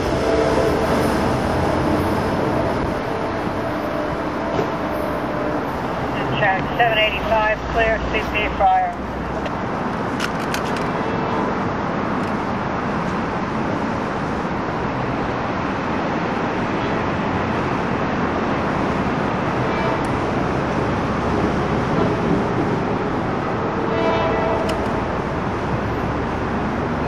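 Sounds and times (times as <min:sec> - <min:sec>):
commuter train approaching: 0:00.0 - 0:27.0
traffic rumble: 0:00.0 - 0:27.0.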